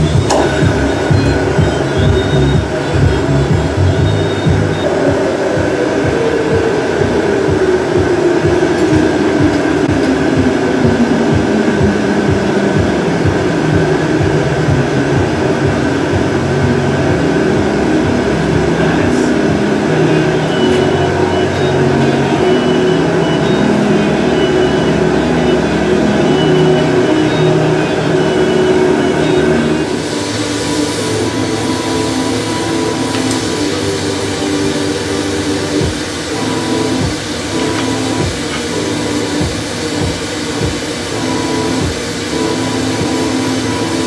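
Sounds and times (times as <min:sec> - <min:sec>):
machinery rumbling: 0:00.0 - 0:44.0
pulsing hum: 0:00.0 - 0:44.0.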